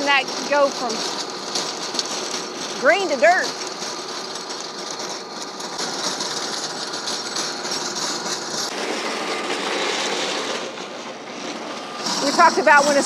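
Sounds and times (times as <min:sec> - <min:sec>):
tractor tiller churning soil: 0:00.0 - 0:13.0.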